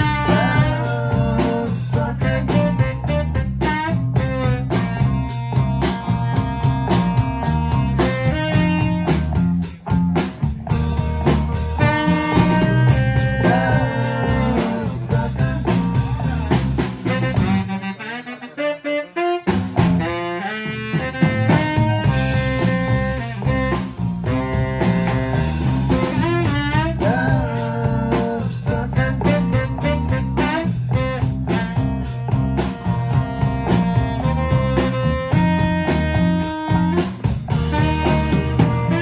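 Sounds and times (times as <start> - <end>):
live band music: 0.0 - 39.0
saxophone lead: 0.0 - 39.0.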